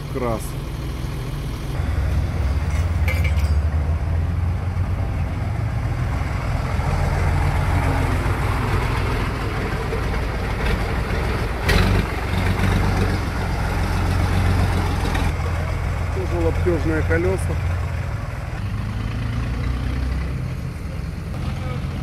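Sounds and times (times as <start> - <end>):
truck engine idling: 0.0 - 18.6.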